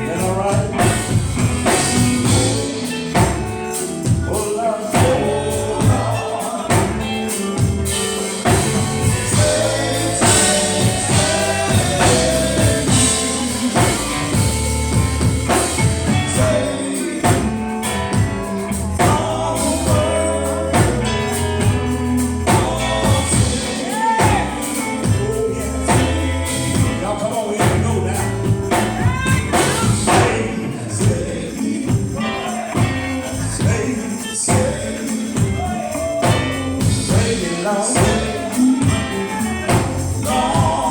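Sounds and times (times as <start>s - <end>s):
band playing: 0.0s - 40.9s
gospel voices singing: 0.0s - 40.9s.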